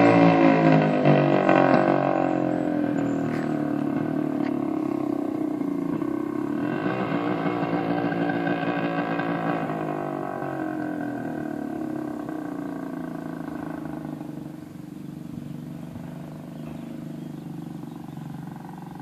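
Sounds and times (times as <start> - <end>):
motorcycle riding away: 0.0 - 19.0.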